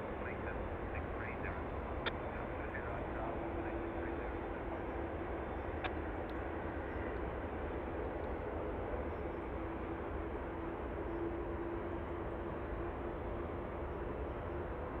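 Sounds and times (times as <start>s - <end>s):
faint engine whine: 0.0s - 15.0s
jet engines rumbling: 0.0s - 15.0s.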